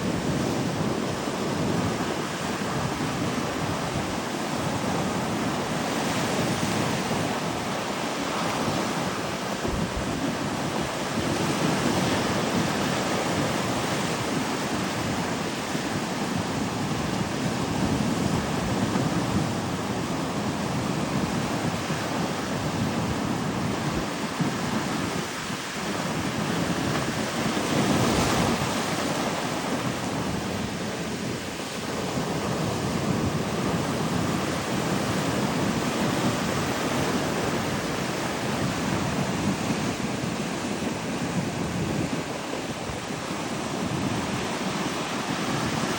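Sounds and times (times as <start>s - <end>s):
ocean surf washing onto beach: 0.0s - 45.9s
wind rumbling on microphone: 0.0s - 45.9s.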